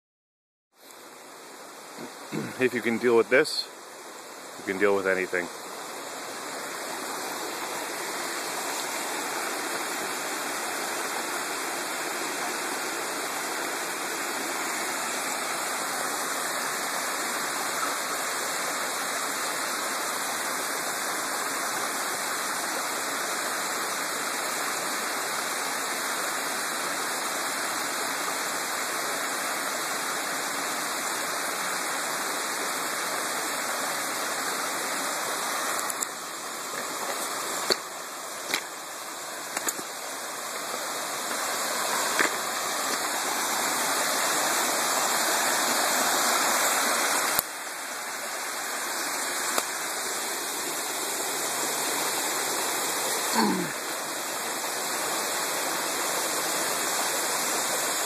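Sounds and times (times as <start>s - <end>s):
stream cascading over waterfall: 0.8s - 58.0s.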